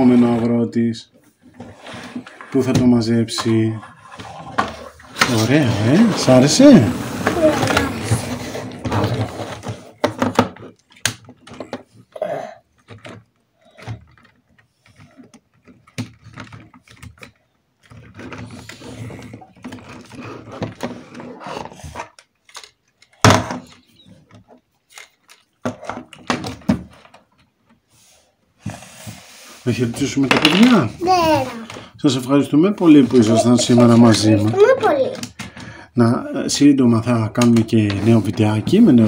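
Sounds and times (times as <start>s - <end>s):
plastic parts clicking and knocking: 1.4s - 27.9s, 30.2s - 35.9s, 36.9s - 39.0s.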